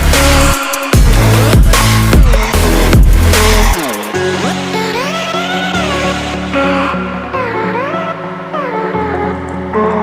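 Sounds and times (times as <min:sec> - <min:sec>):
electronic music with synths: 0:00.0 - 0:10.0.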